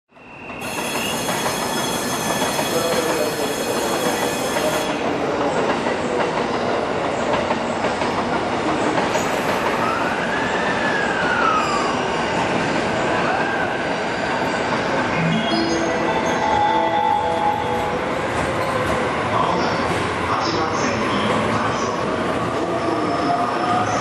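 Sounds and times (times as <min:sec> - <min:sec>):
train running: 0:00.2 - 0:24.0.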